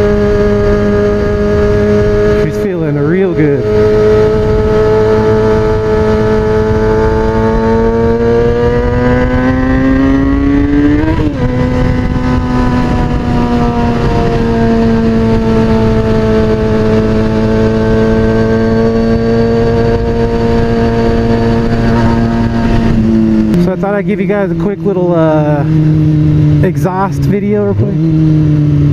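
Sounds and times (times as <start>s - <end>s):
motorcycle engine accelerating: 0.0s - 28.9s.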